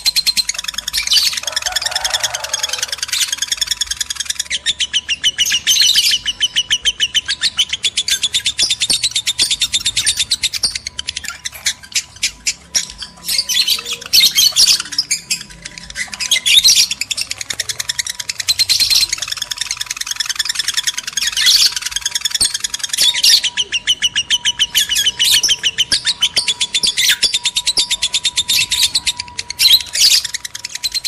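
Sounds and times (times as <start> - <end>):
lovebirds chattering: 0.0 - 31.0.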